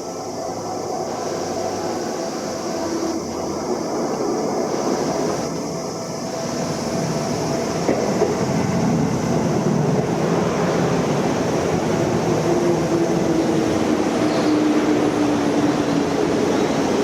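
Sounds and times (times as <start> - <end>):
train braking whine: 0.0 - 17.0
train wheels running: 0.0 - 17.0.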